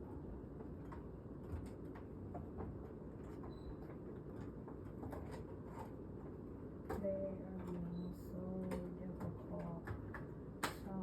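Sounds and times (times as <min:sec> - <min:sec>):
light clicks and taps: 0:00.1 - 0:11.0.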